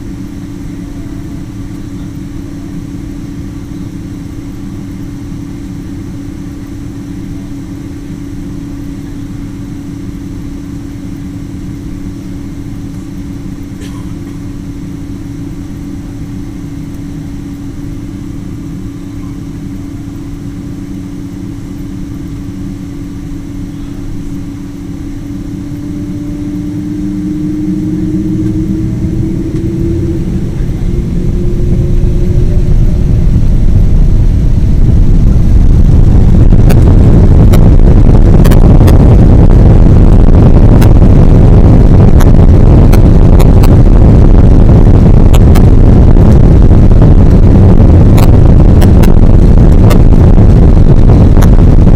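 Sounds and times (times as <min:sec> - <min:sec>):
jet engines spooling up: 0:00.0 - 0:51.9.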